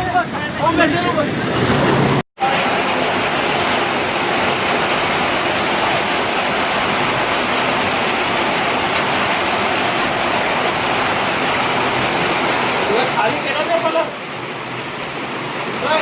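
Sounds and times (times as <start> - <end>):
heavy rain pouring: 1.9 - 16.0.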